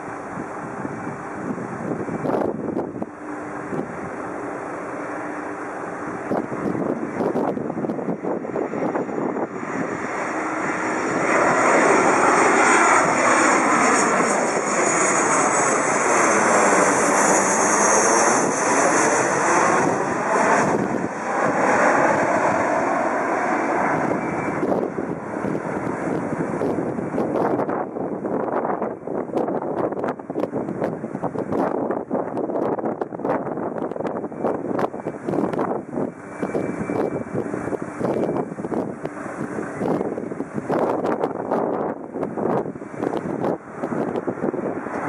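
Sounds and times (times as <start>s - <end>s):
high engine whine: 0.0s - 45.0s
jet airliner flying overhead: 0.0s - 45.0s.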